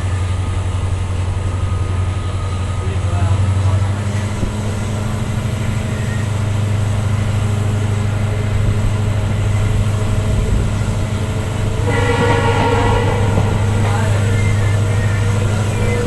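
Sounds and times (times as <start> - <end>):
diesel locomotive humming: 0.0 - 16.0
rumble of moving train: 0.0 - 16.0.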